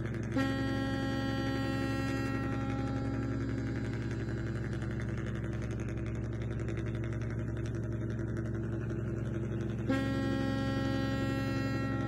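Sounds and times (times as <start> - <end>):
low engine drone: 0.0 - 12.0
steady pitched hum: 0.0 - 12.0.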